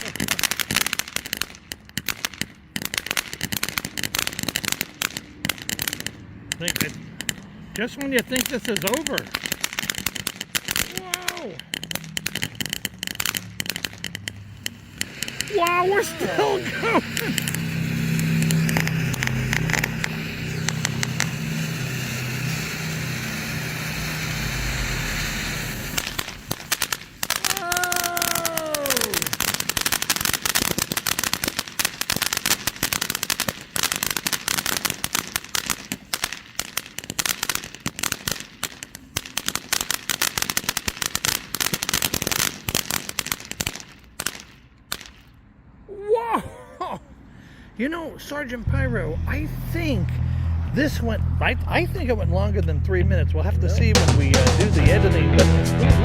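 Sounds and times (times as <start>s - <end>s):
firework fountain hissing: 0.0s - 45.6s
firework crackling: 0.0s - 46.3s, 47.1s - 56.0s.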